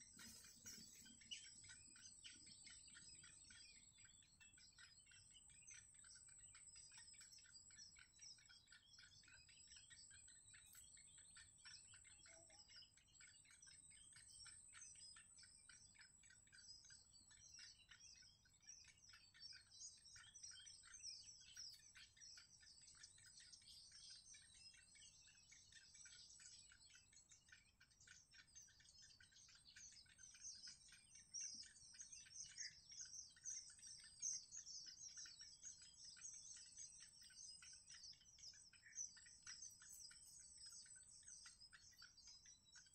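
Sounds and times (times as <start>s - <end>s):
bird chicks chittering: 0.0s - 42.9s.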